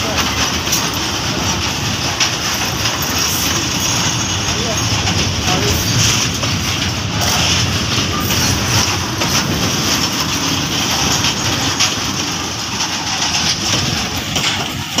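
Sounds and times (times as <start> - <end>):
freight train wheels rumbling: 0.0 - 15.0
train wagon knocks: 0.0 - 15.0.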